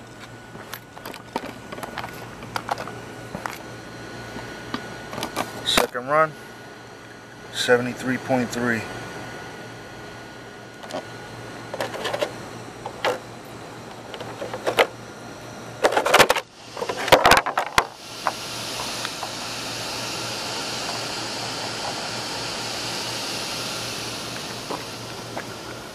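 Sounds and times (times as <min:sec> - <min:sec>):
small cooling fan whirring: 0:00.0 - 0:25.9.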